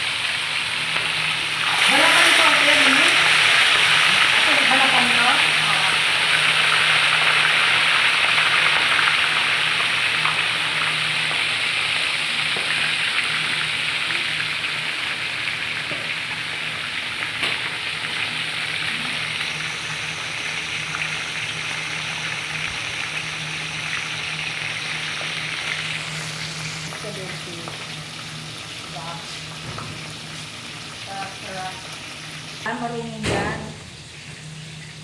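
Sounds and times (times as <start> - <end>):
oil sizzling in a wok: 0.0 - 35.0.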